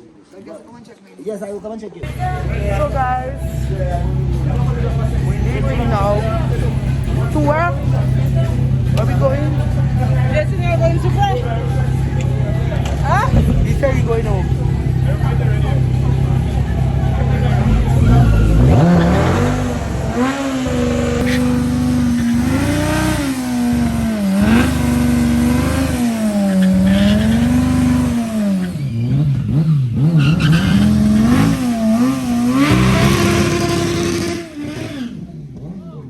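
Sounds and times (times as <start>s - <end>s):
motorcycle engine revving: 2.0s - 36.0s.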